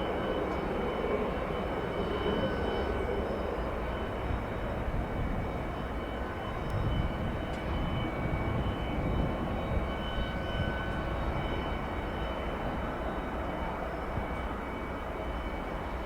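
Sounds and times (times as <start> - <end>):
faint high whining tones: 0.0 - 16.0
jet engines rumbling: 0.0 - 16.0.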